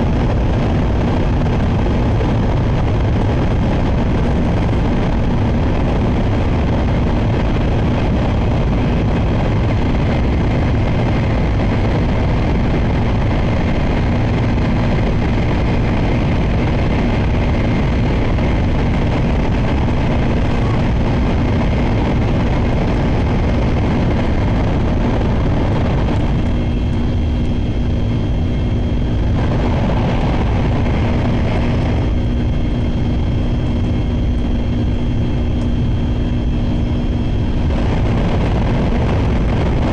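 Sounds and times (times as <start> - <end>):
constant low hum: 0.0 - 39.9
train running and wind noise: 0.0 - 39.9.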